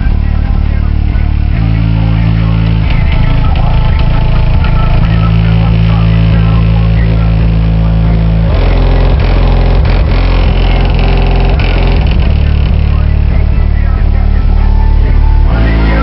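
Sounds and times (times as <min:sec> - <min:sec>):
car subwoofers pounding bass music: 0:00.0 - 0:16.0.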